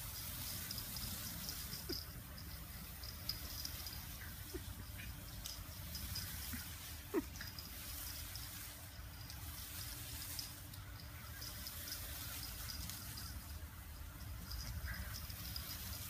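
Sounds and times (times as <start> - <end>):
garden hose spraying water: 0.0 - 16.0.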